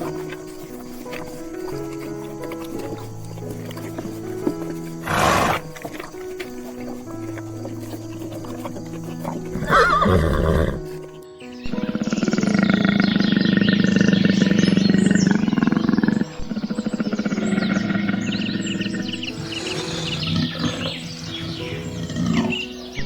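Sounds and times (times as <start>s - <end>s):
animal calling: 0.0s - 23.0s
soft background music: 0.0s - 23.0s.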